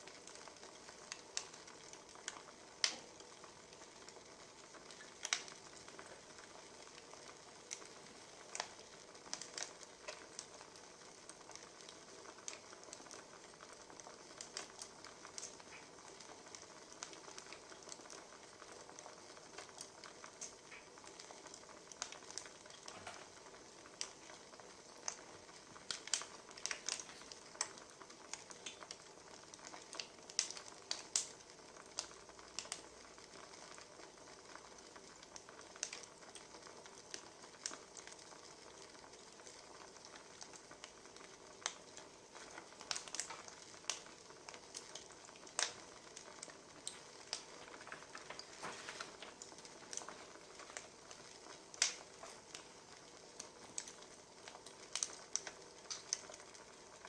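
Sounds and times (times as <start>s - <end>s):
soft hiss: 0.0s - 57.0s
wood fire crackling: 0.0s - 57.0s.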